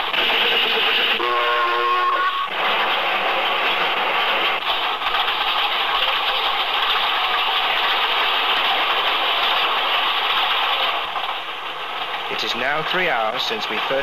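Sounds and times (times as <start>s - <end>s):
train running on track: 0.0s - 14.0s.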